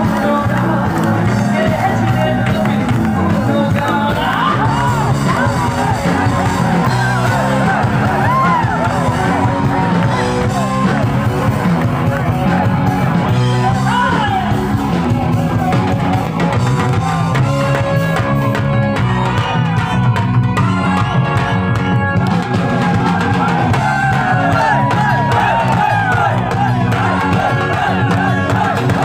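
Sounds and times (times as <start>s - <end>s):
crowd yelling along: 0.0s - 29.0s
live band playing pop music: 0.0s - 29.0s.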